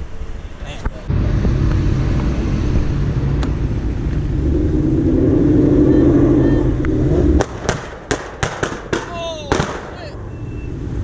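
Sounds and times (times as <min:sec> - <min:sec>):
car engine drone: 0:00.0 - 0:11.0
exhaust backfire cracks: 0:01.2 - 0:10.0.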